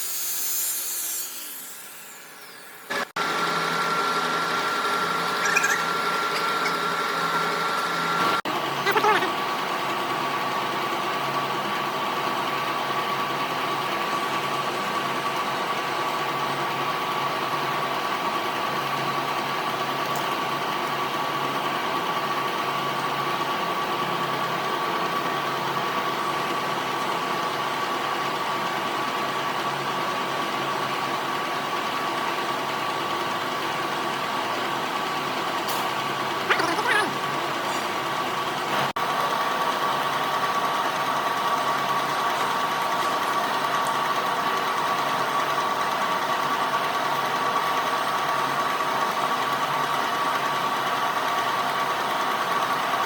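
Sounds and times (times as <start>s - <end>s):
workshop machinery humming: 0.0s - 53.0s.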